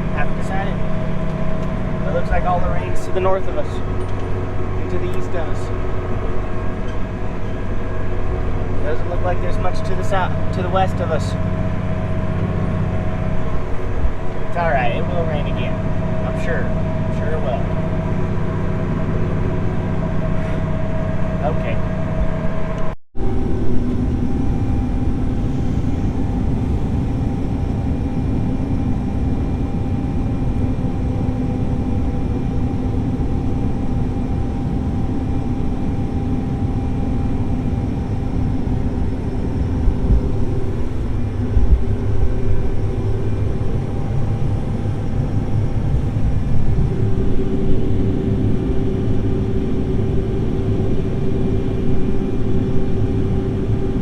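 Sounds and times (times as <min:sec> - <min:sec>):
diesel farm machine running: 0:00.0 - 0:54.0
steady hum tone: 0:00.0 - 0:54.0.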